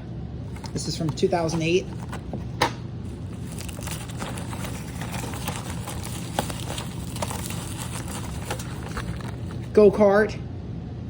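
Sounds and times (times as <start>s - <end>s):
steady low hum: 0.0s - 11.0s
card and plastic rustling clicks: 0.5s - 9.8s.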